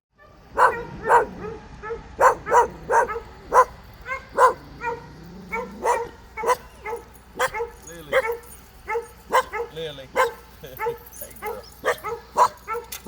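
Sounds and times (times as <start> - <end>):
dogs barking: 0.2 - 13.0.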